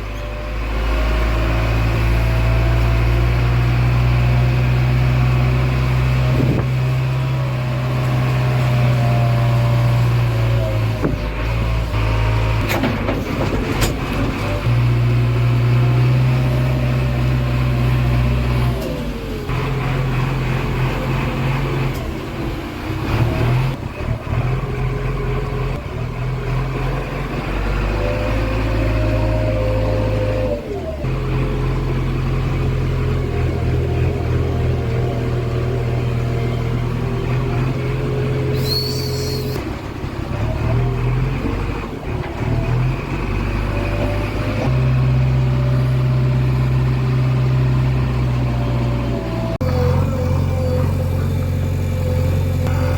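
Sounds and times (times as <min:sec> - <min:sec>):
diesel engine under changing throttle: 0:00.0 - 0:52.9.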